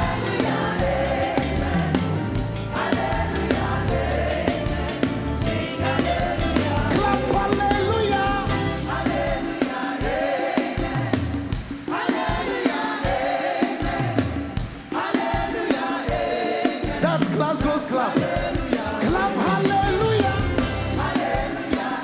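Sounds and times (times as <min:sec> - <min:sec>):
band with drums and bass: 0:00.0 - 0:22.0
choir singing gospel: 0:00.0 - 0:22.0.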